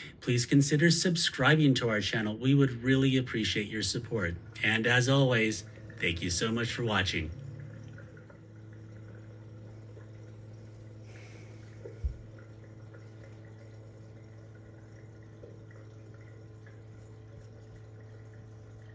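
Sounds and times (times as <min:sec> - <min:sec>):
low electrical hum: 0:00.0 - 0:18.9.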